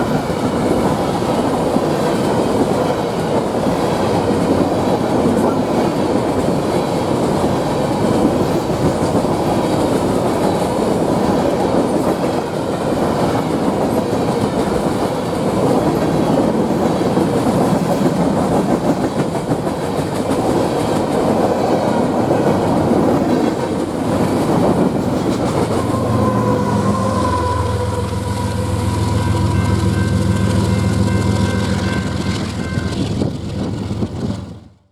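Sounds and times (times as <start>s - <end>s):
wheels clacking over rail joints: 0.0s - 27.4s, 28.0s - 34.8s
freight train cars rumbling: 0.0s - 34.9s.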